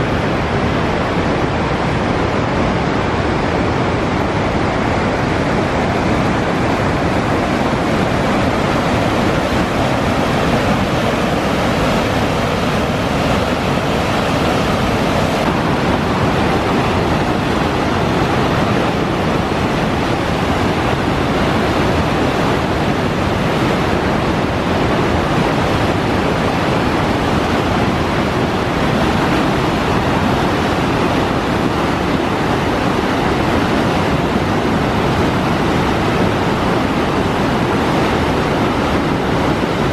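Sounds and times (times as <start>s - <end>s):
whitewater rushing: 0.0s - 39.9s.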